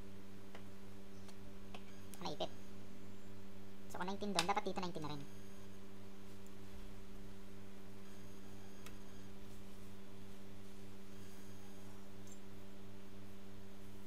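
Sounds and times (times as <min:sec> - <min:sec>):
low electrical hum: 0:00.0 - 0:14.0
pulsing mains buzz: 0:00.0 - 0:14.0.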